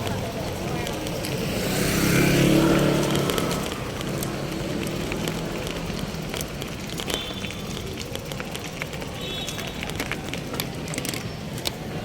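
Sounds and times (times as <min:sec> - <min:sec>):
crackles: 0:00.0 - 0:12.0
road noise: 0:00.0 - 0:12.0
vehicle engine running: 0:00.0 - 0:12.0.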